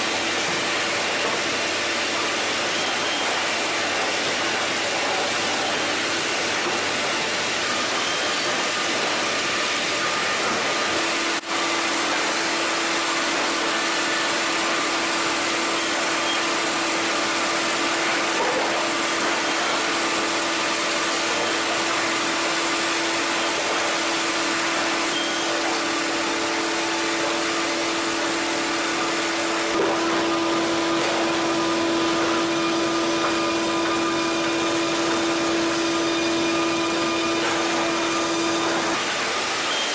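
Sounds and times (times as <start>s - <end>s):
conveyors and motors running: 0.0s - 39.9s.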